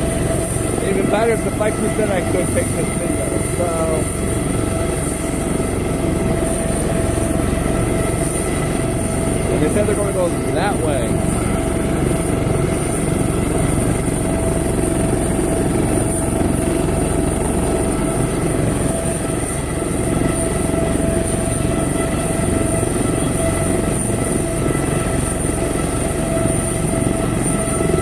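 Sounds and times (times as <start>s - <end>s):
helicopter rotor noise: 0.0s - 28.0s
helicopter turbine whine: 0.0s - 28.0s.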